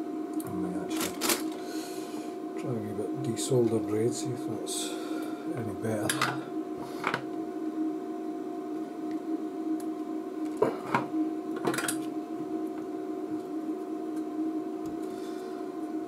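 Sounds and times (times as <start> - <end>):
bench equipment hum: 0.0 - 16.0.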